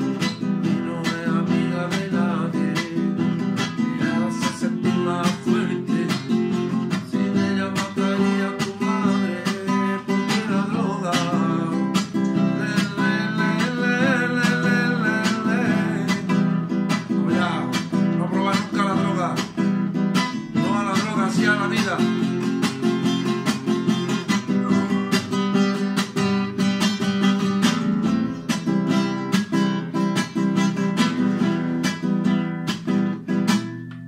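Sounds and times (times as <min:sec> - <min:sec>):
classical guitar strummed rapidly: 0:00.0 - 0:34.0.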